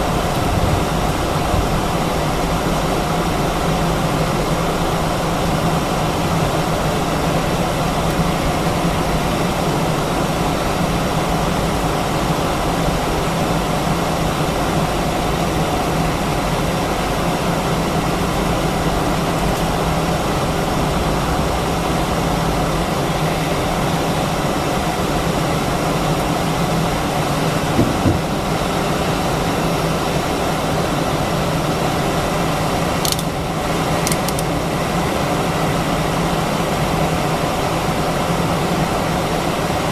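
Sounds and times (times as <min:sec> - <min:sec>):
air-conditioning hiss: 0:00.0 - 0:39.9
jet engines humming: 0:00.0 - 0:39.9.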